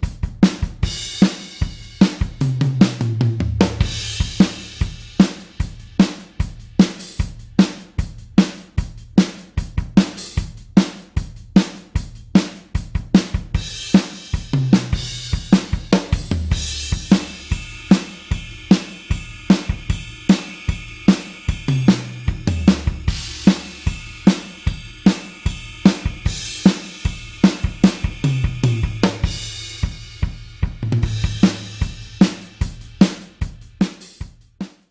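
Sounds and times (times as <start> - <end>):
rock drum kit beat: 0.0 - 34.9.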